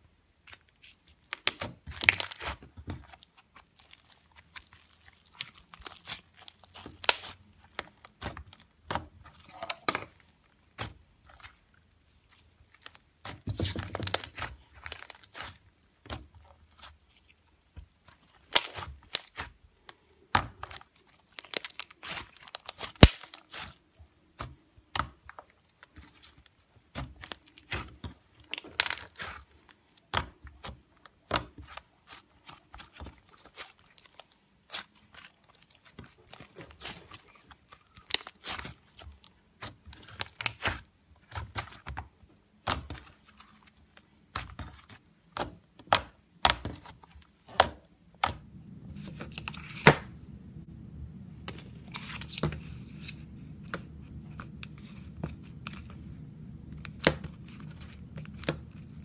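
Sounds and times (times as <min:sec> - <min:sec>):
sticky slime popping and crackling: 0:00.3 - 0:50.1.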